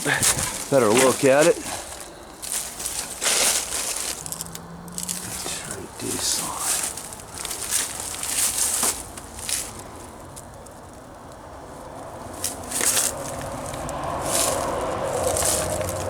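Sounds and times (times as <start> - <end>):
footsteps crunching on dry ground: 0.0 - 11.0, 12.1 - 16.0.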